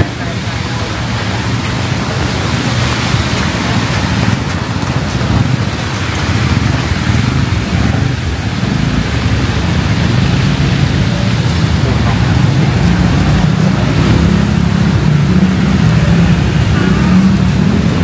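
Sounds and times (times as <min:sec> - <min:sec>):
heavy rain hissing: 0:00.0 - 0:18.0
street traffic rumble: 0:00.0 - 0:18.0.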